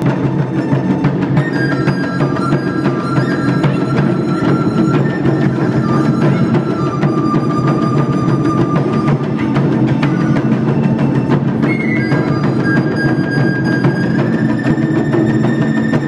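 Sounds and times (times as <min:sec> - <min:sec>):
flute playing long notes: 0:00.0 - 0:16.0
taiko drums beating: 0:00.0 - 0:16.0.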